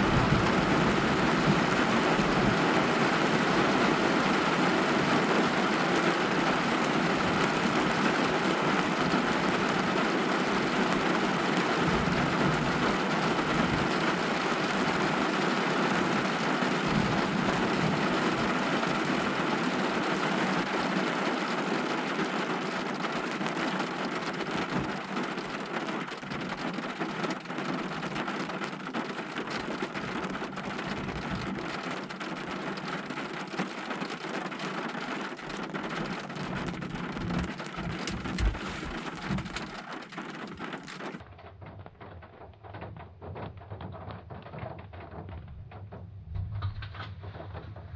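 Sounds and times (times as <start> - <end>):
heavy rain pouring: 0.0 - 47.9
raindrops tapping: 0.0 - 47.9.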